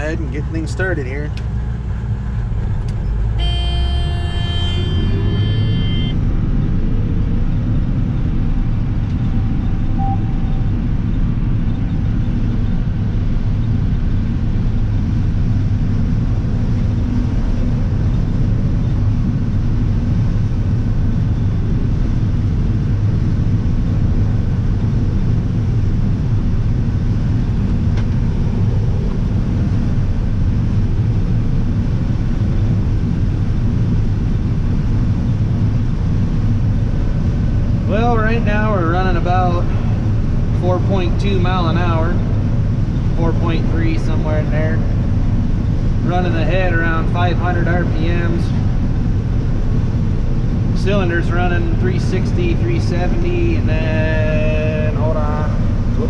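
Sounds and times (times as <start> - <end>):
combine harvester rumbling: 0.0 - 56.0.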